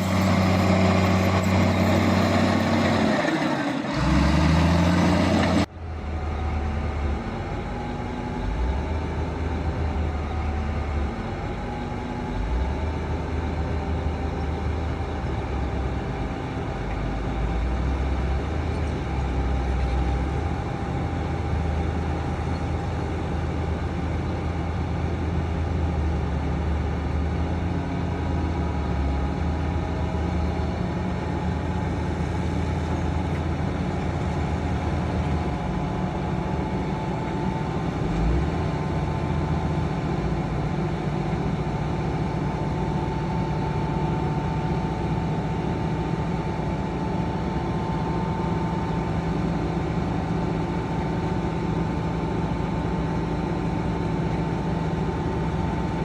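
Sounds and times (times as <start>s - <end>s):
diesel machinery engine hum: 0.0s - 56.0s.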